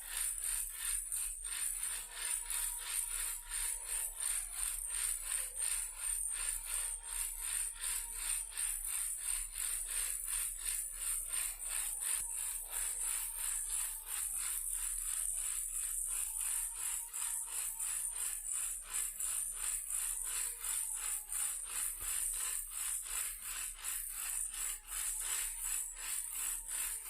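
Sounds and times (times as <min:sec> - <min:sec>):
toy car rattling: 0:00.1 - 0:27.0.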